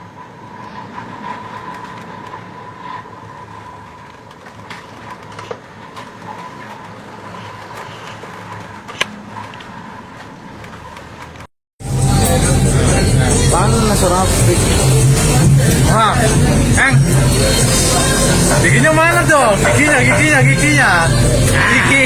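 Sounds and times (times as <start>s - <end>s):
boat machinery humming: 0.0s - 22.0s.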